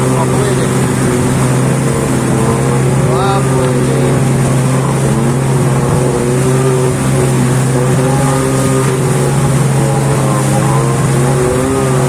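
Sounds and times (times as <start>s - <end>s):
snowmobile engine droning: 0.0s - 12.0s.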